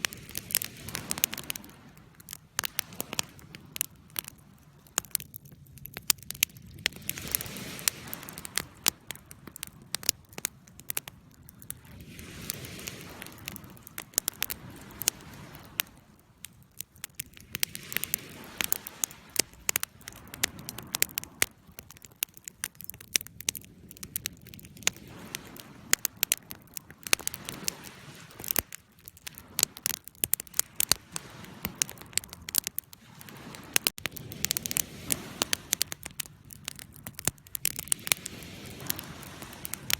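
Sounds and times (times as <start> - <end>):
soft hiss of flames: 0.0 - 39.9
wood crackling and popping: 0.0 - 39.9.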